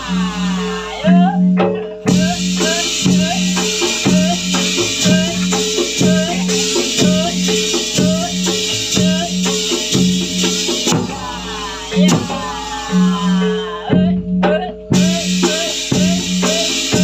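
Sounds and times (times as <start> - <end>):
percussion music with steady beat: 0.0 - 17.0
high hiss: 2.1 - 13.9, 15.0 - 17.0.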